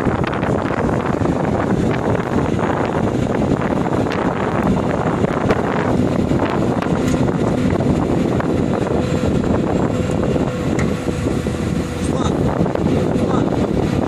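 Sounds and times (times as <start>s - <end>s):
excavator diesel engine running: 0.0s - 14.0s
wind on microphone: 0.0s - 14.0s.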